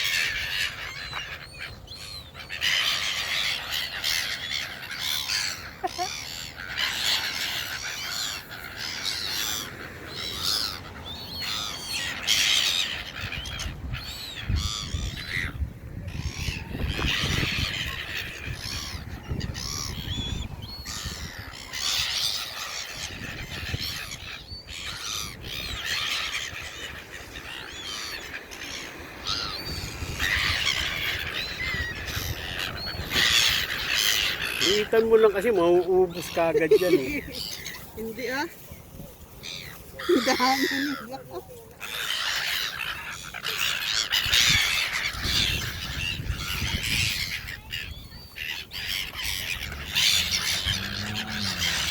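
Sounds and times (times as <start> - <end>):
birds squawking and calling: 0.0 - 51.9.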